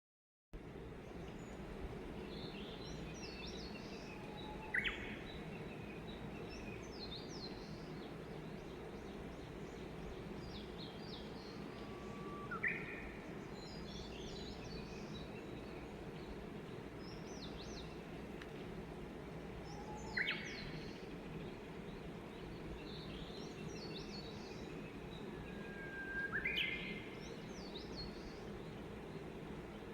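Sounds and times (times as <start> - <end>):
low ambient hiss: 0.6 - 29.9
bush warbler whistling song: 1.0 - 18.1, 19.4 - 29.9
small birds twittering: 1.0 - 18.1, 19.4 - 29.9.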